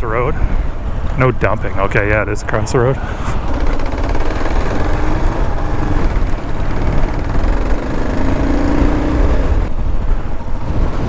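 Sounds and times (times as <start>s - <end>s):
motorcycle engine running: 1.9s - 11.0s.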